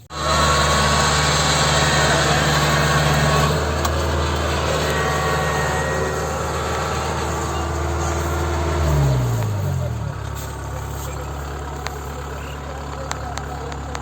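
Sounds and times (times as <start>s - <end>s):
farm machine engine running: 0.0s - 14.0s.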